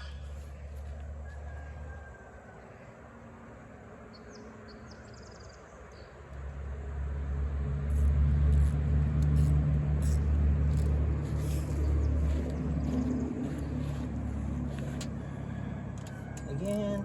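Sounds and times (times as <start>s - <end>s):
motor vehicle engine drone: 3.0s - 17.0s.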